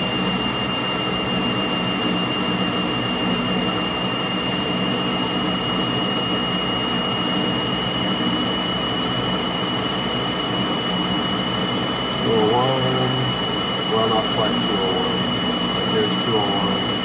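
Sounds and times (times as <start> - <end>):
high cutting whine: 0.0 - 17.0
metal lathe running: 0.0 - 17.0.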